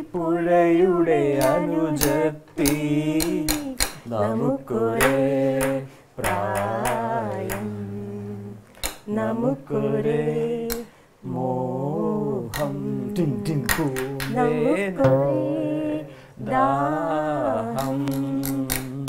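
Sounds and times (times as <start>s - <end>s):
people singing unaccompanied: 0.0s - 19.0s.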